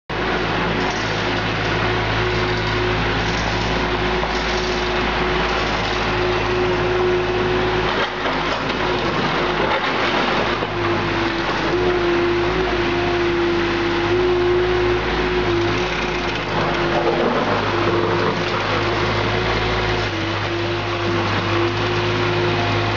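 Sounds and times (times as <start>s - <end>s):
loader engine running: 0.1s - 22.9s.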